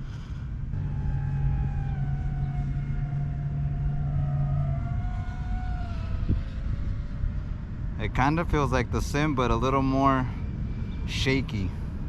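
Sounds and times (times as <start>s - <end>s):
motor running with whine: 0.0s - 9.7s.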